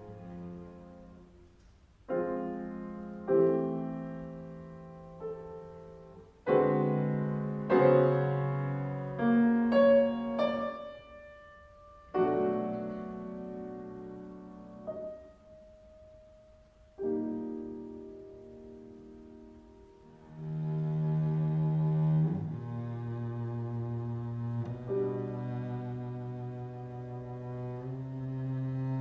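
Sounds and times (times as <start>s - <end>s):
grand piano chords: 0.0s - 29.0s.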